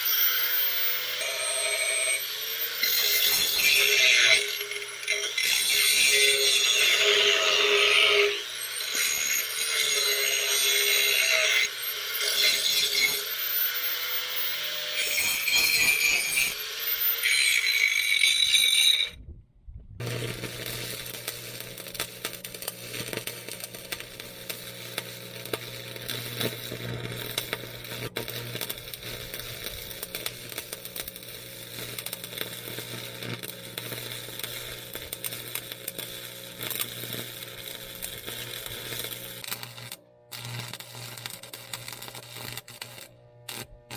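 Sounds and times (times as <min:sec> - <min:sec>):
arc welder crackling: 0:00.0 - 0:19.2, 0:20.0 - 0:43.9
power grinder on steel: 0:00.0 - 0:19.2, 0:20.0 - 0:43.9.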